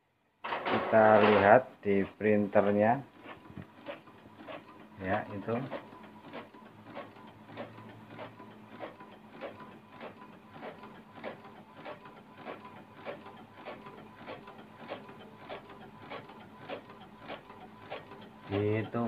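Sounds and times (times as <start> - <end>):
faint printer hum: 0.5 - 19.0.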